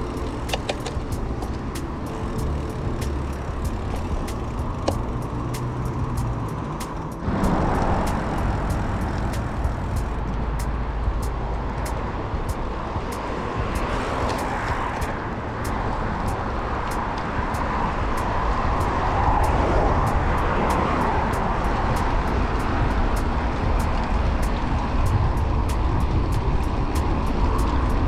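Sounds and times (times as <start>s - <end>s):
road traffic passing: 0.0s - 28.0s
wind rumbling on microphone: 0.0s - 28.0s.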